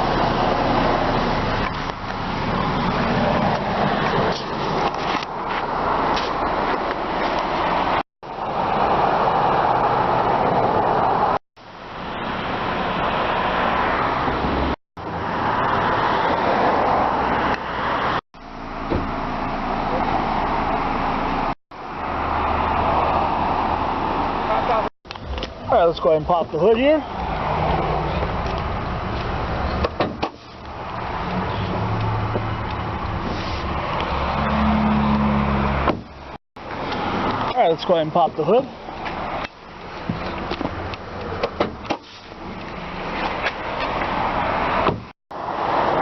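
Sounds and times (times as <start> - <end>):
car engine humming: 0.0 - 46.0
motor vehicle noise: 0.0 - 46.0.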